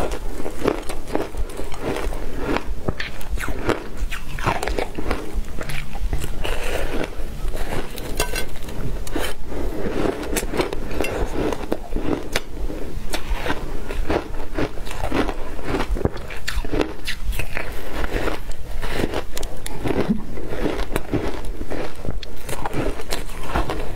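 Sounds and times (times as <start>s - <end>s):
ice crunching between teeth: 0.0s - 23.9s.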